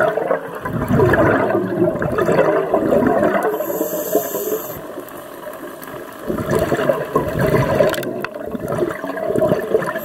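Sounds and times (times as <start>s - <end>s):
underwater exhaled bubbles: 0.0s - 10.0s.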